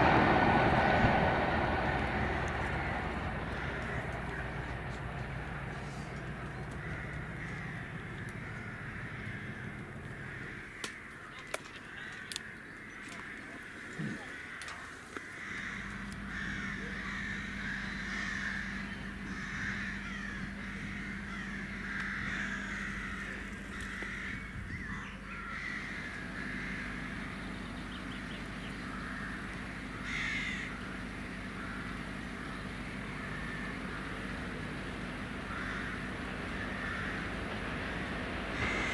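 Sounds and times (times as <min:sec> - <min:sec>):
low steady hum: 0:00.0 - 0:38.9
crows cawing: 0:01.8 - 0:37.5, 0:38.5 - 0:38.9
birds singing: 0:02.2 - 0:37.8, 0:38.5 - 0:38.9.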